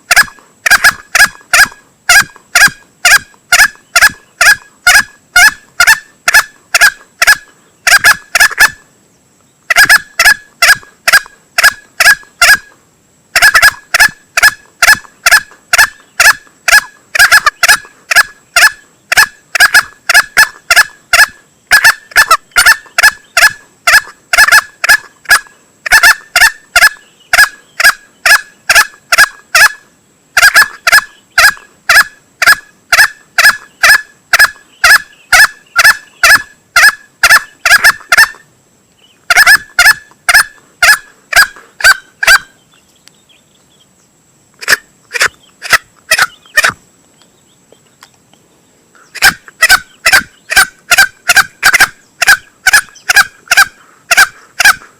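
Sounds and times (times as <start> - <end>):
junglefowl calling: 0.0 - 8.9, 9.7 - 42.8, 44.6 - 46.8, 49.0 - 54.9.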